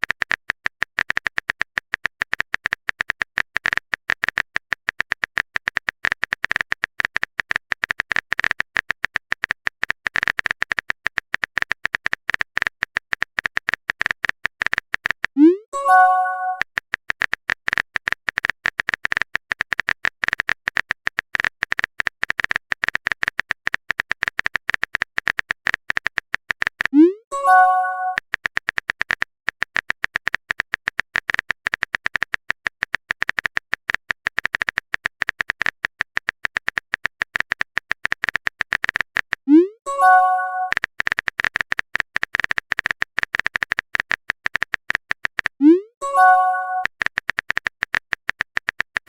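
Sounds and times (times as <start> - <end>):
keyboard typing clicks: 0.0 - 49.0.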